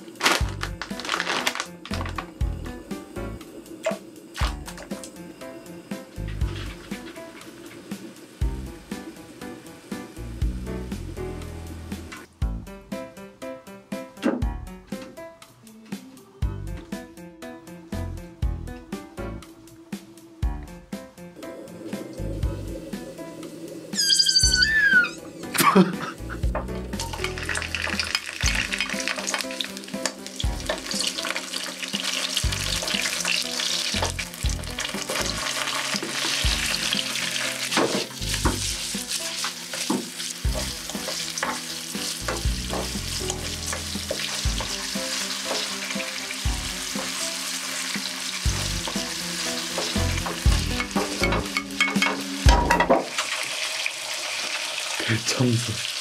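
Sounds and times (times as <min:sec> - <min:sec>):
food sizzling in oil: 0:00.0 - 0:12.1, 0:21.4 - 0:56.0.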